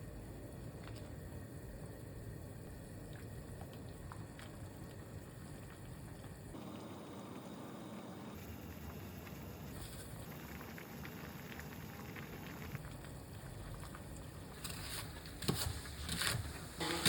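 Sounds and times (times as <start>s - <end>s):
soup bubbling in pot: 0.0s - 17.0s.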